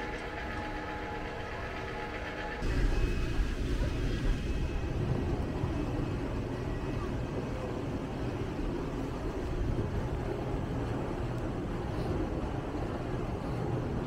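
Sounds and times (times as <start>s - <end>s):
city street traffic rumble: 0.0s - 14.0s.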